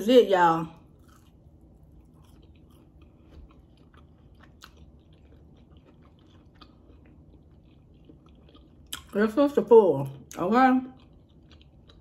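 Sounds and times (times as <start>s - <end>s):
chewing with mouth closed: 0.8s - 9.2s, 10.1s - 12.0s.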